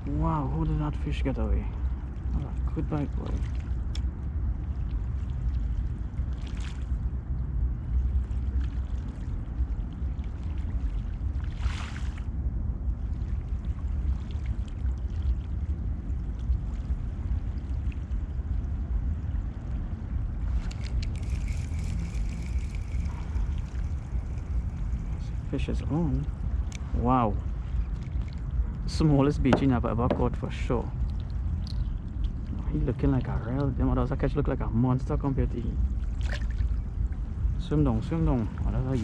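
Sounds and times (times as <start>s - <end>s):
water splashes: 0.0s - 7.1s, 7.8s - 12.4s, 13.0s - 34.0s, 34.6s - 39.0s
steady low rumble: 0.0s - 39.0s
water lapping against kayak: 1.6s - 33.8s, 35.7s - 39.0s.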